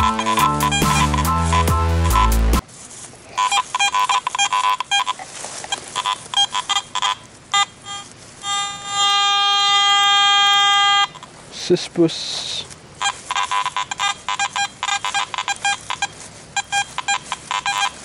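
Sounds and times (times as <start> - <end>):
metal detector beeping: 0.0 - 2.6, 3.3 - 11.3, 12.4 - 18.0
metal detector steady tone: 0.0 - 2.6, 3.3 - 18.0.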